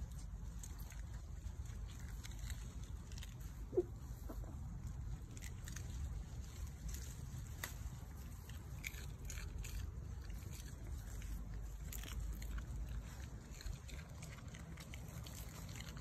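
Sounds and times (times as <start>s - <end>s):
dog chewing crunches: 0.0s - 16.0s
leaves rustling: 0.0s - 16.0s
steady low rumble: 0.0s - 16.0s.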